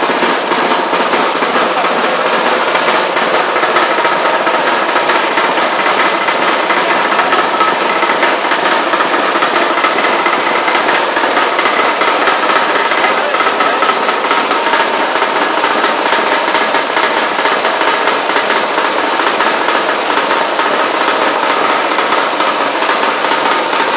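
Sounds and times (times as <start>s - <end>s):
dense machine noise: 0.0s - 23.9s.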